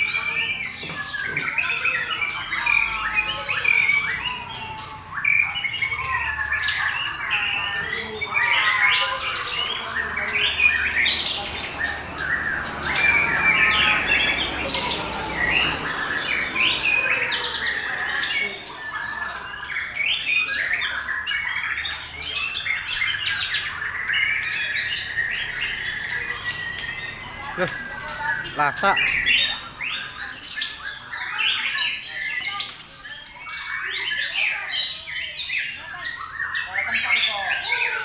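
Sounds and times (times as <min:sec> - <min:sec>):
birds singing in chorus: 0:00.0 - 0:38.0.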